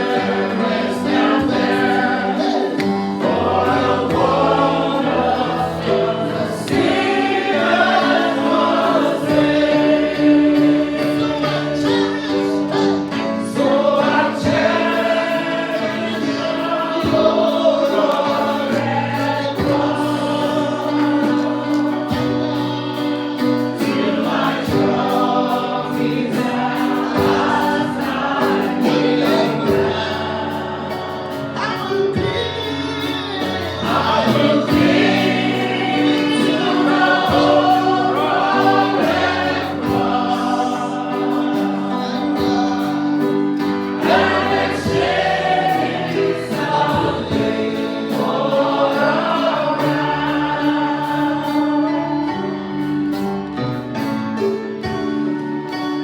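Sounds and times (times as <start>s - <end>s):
choir and congregation singing: 0.0s - 56.0s
musical accompaniment: 0.0s - 56.0s.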